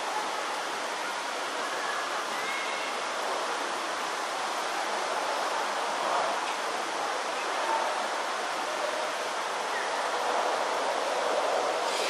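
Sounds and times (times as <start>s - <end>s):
open-air background hiss: 0.0s - 12.0s.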